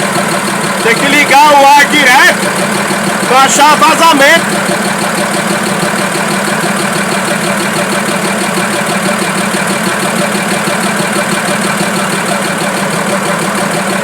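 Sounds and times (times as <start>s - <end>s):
diesel engine running steadily: 0.0s - 14.0s.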